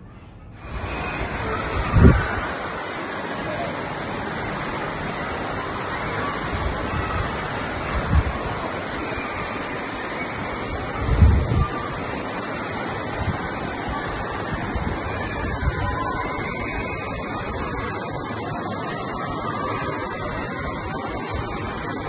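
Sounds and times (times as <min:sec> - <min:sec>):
heavy rain falling: 0:00.6 - 0:22.0.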